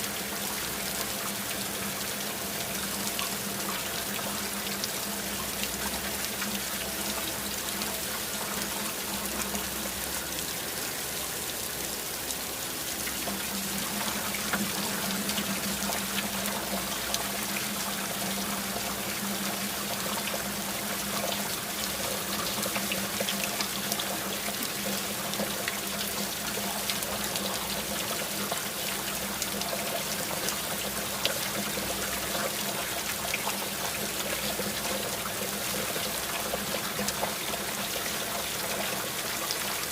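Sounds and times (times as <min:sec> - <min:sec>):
steady rain falling: 0:00.0 - 0:39.9
trickle of running water: 0:00.0 - 0:39.9.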